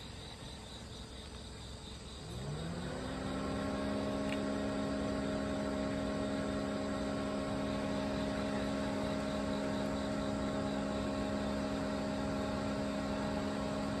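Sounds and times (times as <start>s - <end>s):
mechanical hum with low tones: 0.0s - 14.0s.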